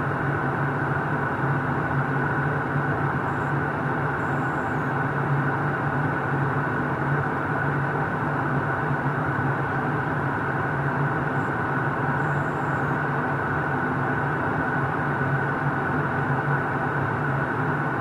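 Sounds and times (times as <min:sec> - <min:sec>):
engine and airflow rush: 0:00.0 - 0:18.0.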